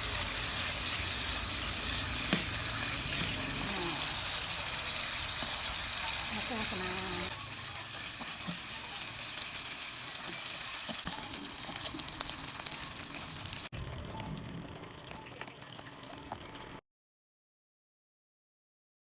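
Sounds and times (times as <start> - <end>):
chicken sizzling in hot oil: 0.0 - 16.8.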